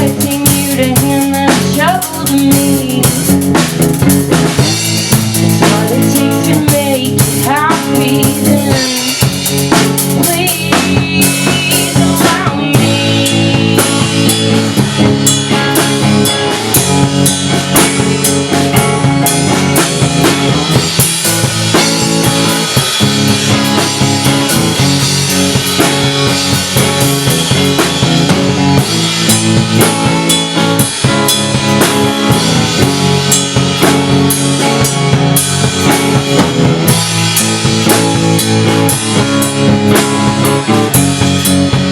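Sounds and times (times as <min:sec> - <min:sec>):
driving drum beat: 0:00.0 - 0:41.9
guitar and drums band playing: 0:00.0 - 0:41.9.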